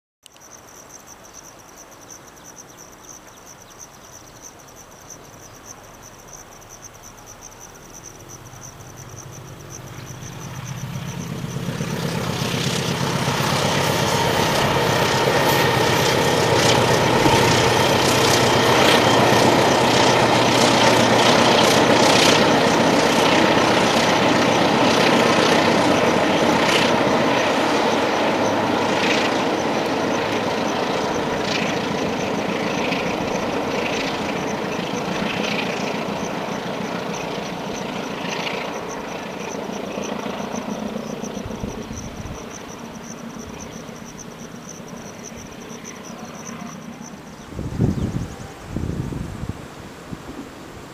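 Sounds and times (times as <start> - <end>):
high insect chirp: 0.2 - 50.9
locomotive engine drone: 8.2 - 49.0.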